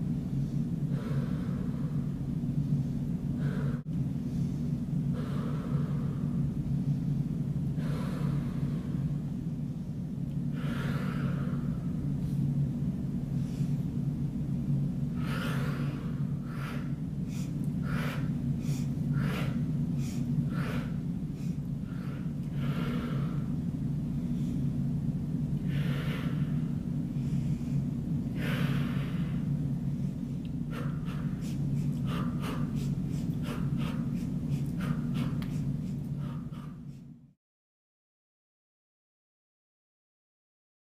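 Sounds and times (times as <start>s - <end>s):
steady low hum: 0.0s - 37.4s
person breathing hard: 0.3s - 12.6s, 15.0s - 24.9s, 25.5s - 37.3s.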